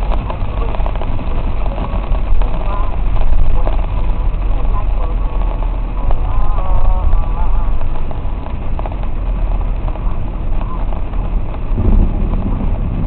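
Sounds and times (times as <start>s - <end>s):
car cabin low rumble: 0.0s - 13.0s
heavy rain on car: 0.0s - 13.0s.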